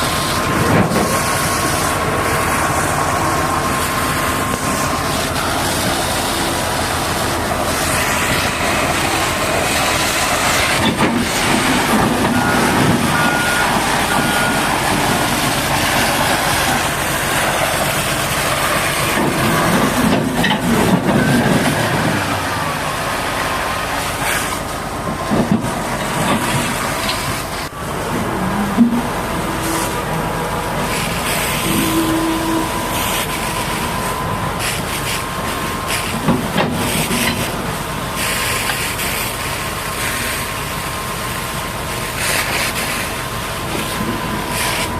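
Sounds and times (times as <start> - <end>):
heavy equipment running: 0.0 - 44.9.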